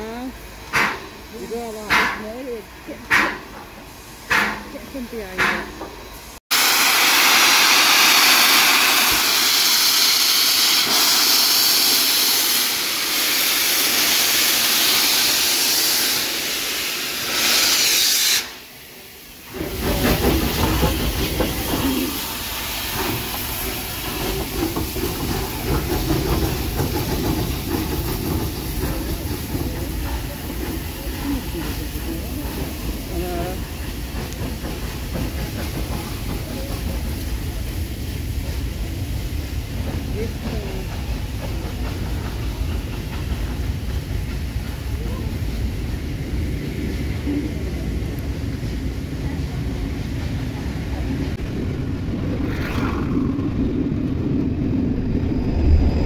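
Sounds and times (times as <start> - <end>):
steam hissing from locomotive: 0.0 - 53.8
train coaches rumbling past: 0.0 - 56.0.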